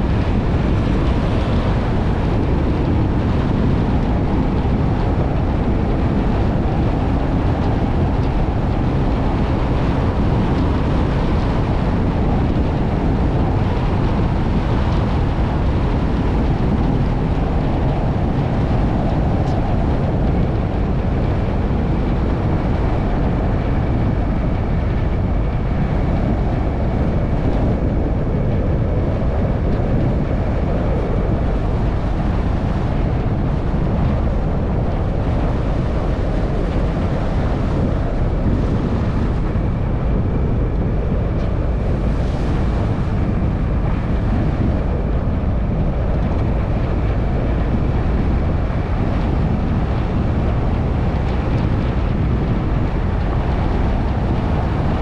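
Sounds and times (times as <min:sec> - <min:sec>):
vehicle driving on dirt road: 0:00.0 - 0:55.0.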